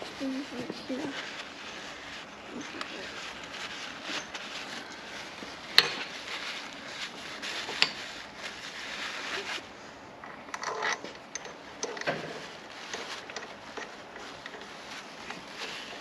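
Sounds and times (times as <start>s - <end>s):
rubbing and clattering: 0.0s - 9.7s, 10.5s - 16.0s.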